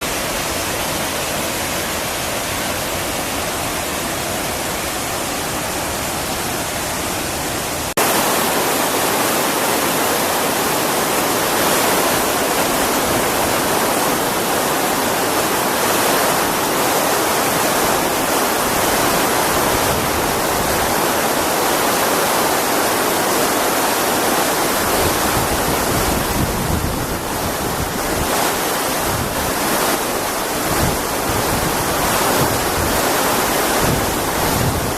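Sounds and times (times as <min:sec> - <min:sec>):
water roaring down spillway: 0:00.0 - 0:34.9.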